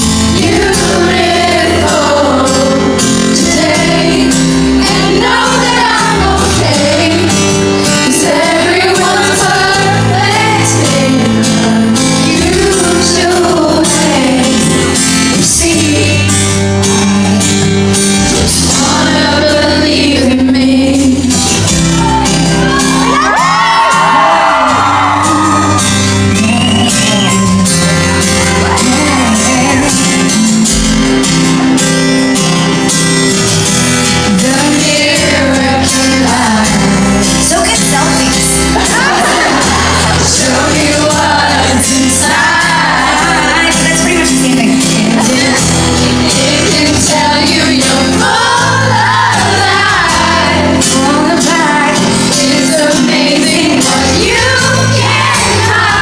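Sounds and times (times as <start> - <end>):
woman singing lead vocal: 0.0 - 27.5, 28.6 - 31.0, 34.2 - 56.0
live pop band with drums and bass: 0.0 - 56.0.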